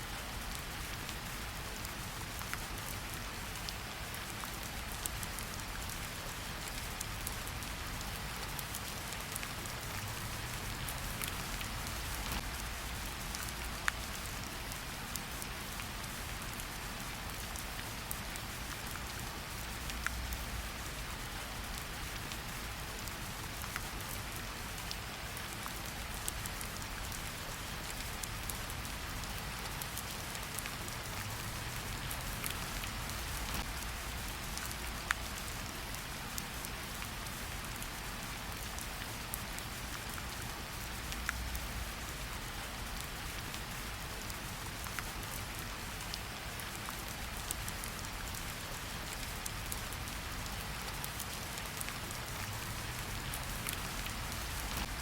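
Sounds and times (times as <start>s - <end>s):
rain falling in forest: 0.0s - 55.0s.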